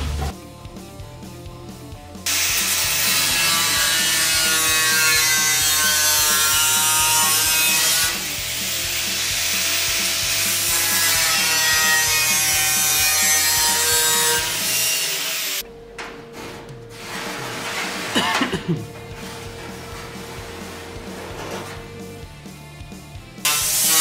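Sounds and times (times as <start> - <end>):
angle grinder grinding metal: 2.3 - 15.7, 16.9 - 22.3, 23.4 - 24.0.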